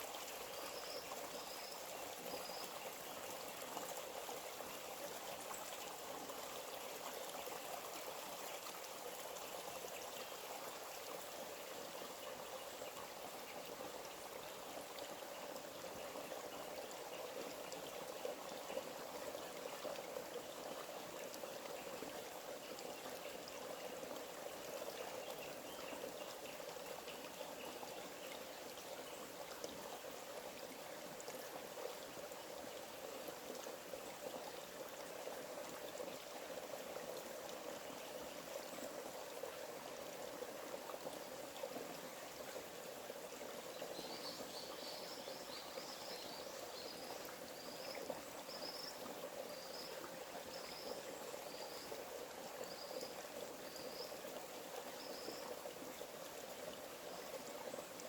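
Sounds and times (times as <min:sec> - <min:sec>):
stream trickling and gurgling: 0:00.0 - 0:58.0.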